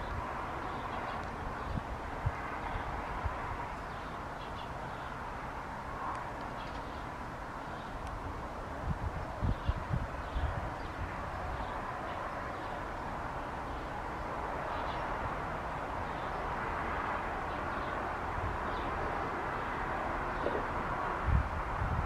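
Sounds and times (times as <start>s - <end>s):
distant vehicle traffic: 0.0s - 22.0s
wind buffeting: 0.0s - 22.0s.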